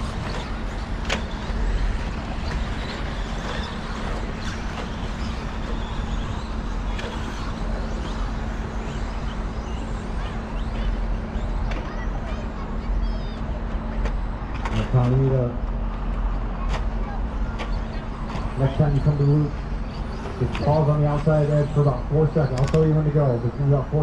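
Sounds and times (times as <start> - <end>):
low constant hum: 0.0 - 24.0
toy truck motors and tyres: 0.0 - 24.0.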